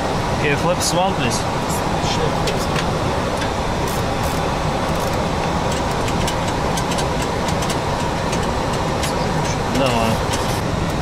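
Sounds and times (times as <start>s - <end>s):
cockpit airflow and engine noise: 0.0s - 11.0s.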